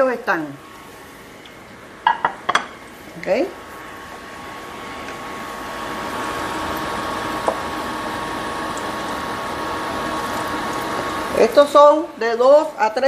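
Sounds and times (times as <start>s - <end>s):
food sizzling in hot oil: 0.7s - 12.8s.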